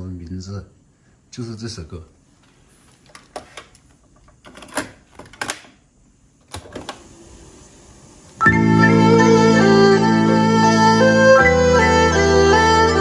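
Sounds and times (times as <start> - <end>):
faint tape hiss: 0.0 - 13.0.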